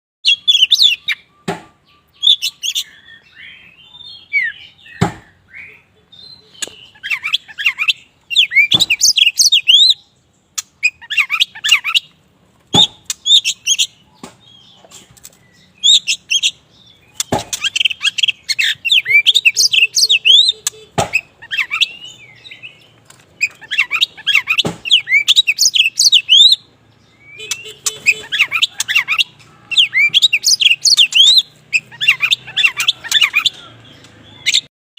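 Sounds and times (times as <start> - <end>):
bird singing whistles and trills: 0.2 - 12.1, 15.5 - 34.7.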